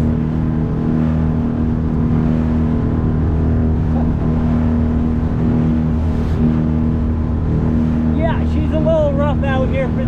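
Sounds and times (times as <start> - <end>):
outboard motor drone: 0.0 - 10.0
rushing water noise: 0.0 - 10.0.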